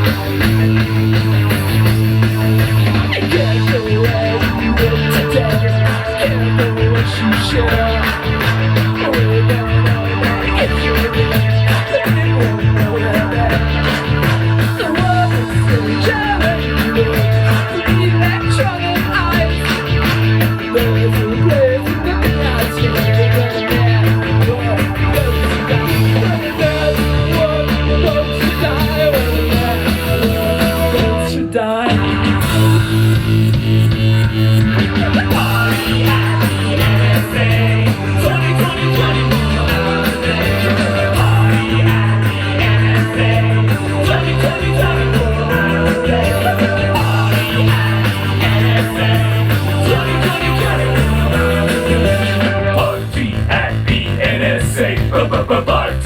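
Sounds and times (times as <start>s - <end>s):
live electronic rock band: 0.0s - 56.0s.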